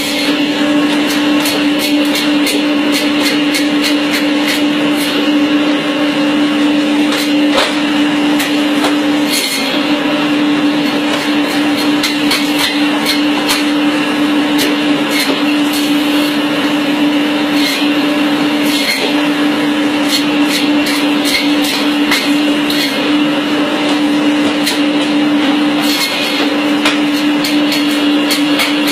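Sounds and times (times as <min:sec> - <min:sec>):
electric band saw humming: 0:00.0 - 0:28.9.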